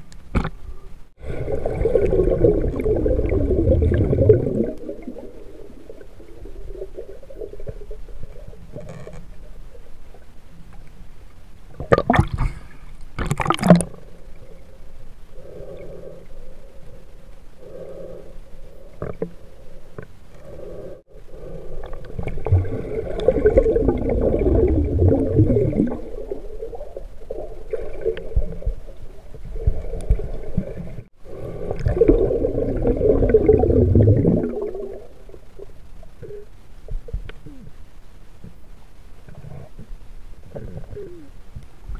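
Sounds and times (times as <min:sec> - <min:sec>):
underwater gurgling and rumbling: 0:00.0 - 0:41.9.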